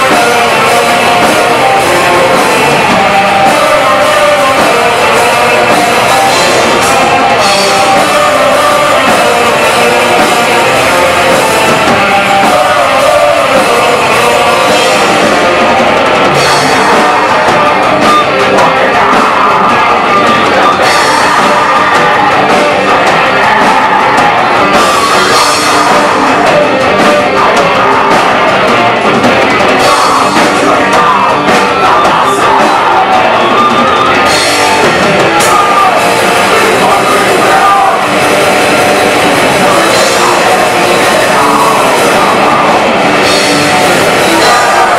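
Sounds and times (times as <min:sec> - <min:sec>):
distorted electric guitars: 0:00.0 - 0:44.9
drum kit: 0:00.0 - 0:44.9.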